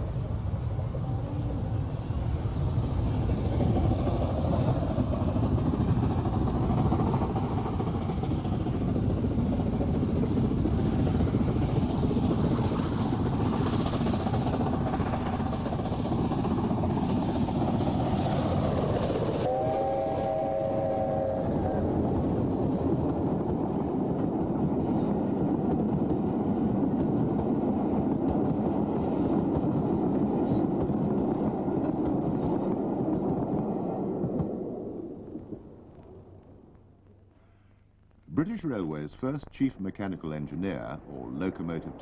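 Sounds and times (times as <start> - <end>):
steam locomotive working hard: 0.0 - 34.5.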